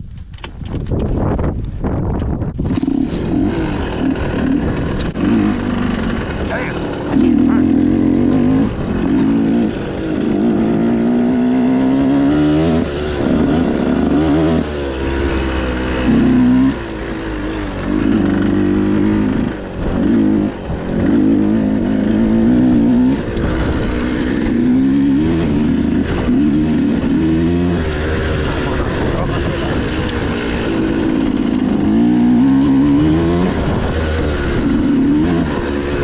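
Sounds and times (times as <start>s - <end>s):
dirt bike engine revving: 2.5s - 36.0s.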